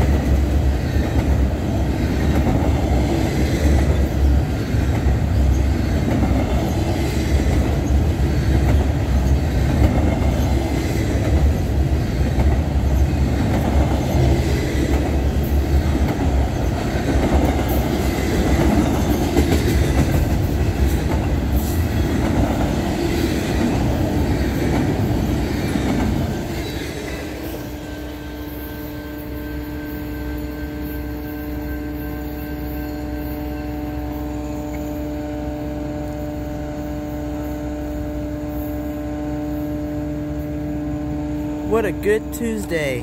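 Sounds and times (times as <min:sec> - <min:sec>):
sharp train clanks: 0:00.0 - 0:35.2
train wheels rumbling on rail: 0:00.0 - 0:41.7.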